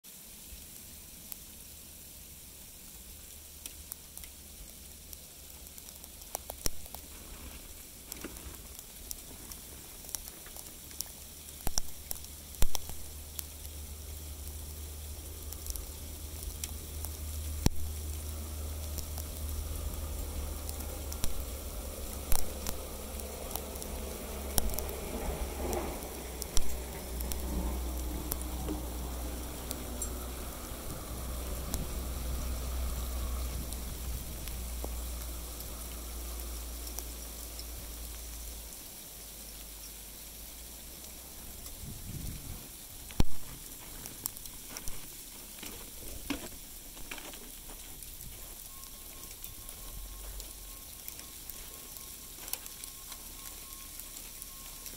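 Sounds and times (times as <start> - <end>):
low steady rumble: 0.1 - 54.9
sleet ticking on snow: 2.3 - 54.9.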